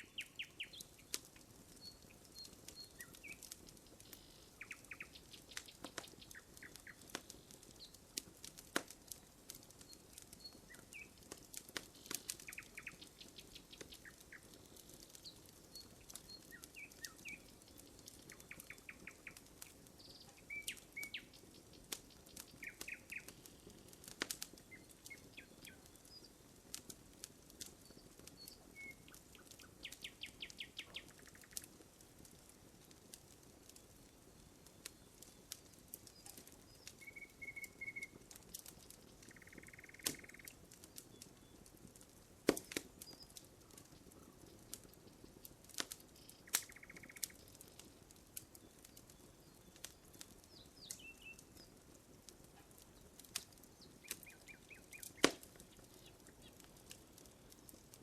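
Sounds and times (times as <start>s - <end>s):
small birds calling: 0.0s - 31.8s, 33.6s - 58.0s
burning wood crackling: 0.0s - 58.0s.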